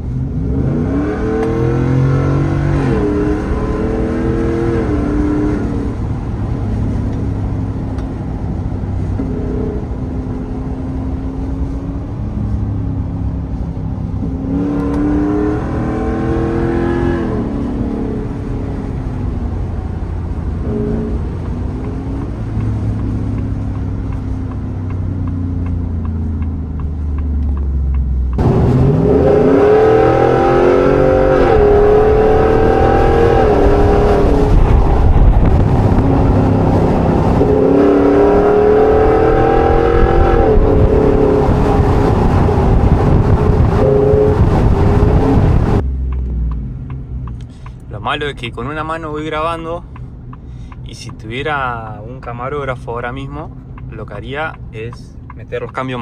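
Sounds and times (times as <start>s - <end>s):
truck engine revving: 0.0s - 13.4s, 14.0s - 46.6s.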